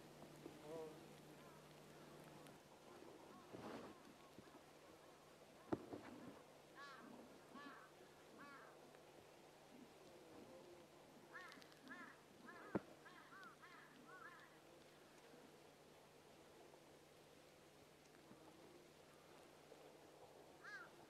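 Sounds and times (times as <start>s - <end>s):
faint bird calls: 0.0s - 15.7s, 18.0s - 21.0s.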